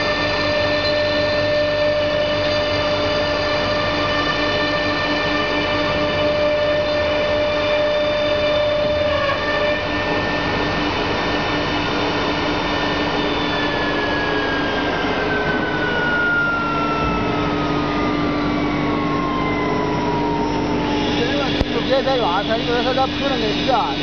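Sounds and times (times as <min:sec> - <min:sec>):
machine noise: 0:00.0 - 0:24.0
router spindle high whine: 0:00.0 - 0:24.0.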